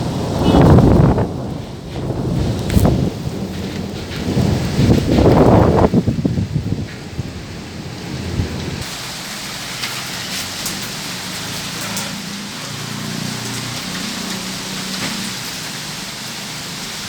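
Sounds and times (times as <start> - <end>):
heavy rain falling: 0.0 - 17.0
raindrops ticking close by: 0.0 - 17.0
thunder rumbling: 0.0 - 17.0.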